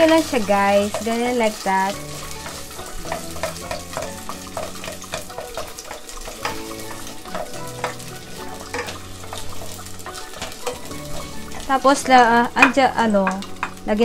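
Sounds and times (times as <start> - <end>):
carrots sizzling in hot oil: 0.0 - 14.0
spoon scraping a pot: 0.8 - 12.8.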